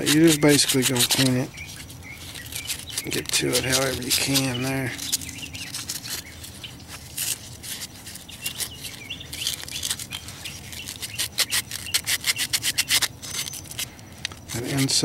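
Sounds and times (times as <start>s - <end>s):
emery cloth rubbing metal rods: 0.0s - 13.8s.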